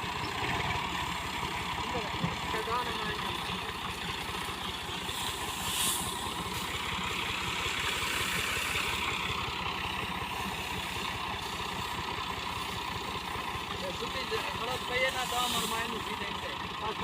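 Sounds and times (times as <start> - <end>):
farm machinery engine running: 0.0 - 17.0.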